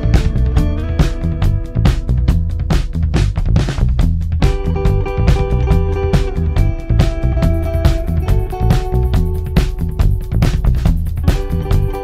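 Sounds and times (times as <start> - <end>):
guitar music with drums: 0.0 - 12.0.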